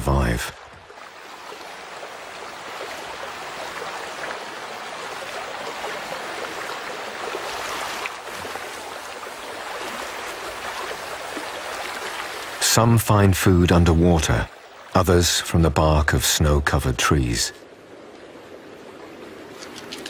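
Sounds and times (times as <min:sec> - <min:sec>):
river water rushing and trickling: 0:00.0 - 0:20.0.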